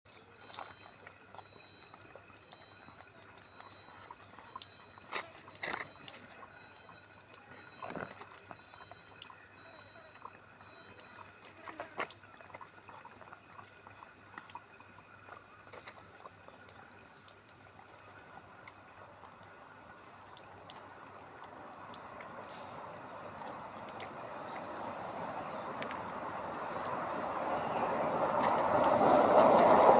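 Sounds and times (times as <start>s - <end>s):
water splashes: 0.1s - 29.9s.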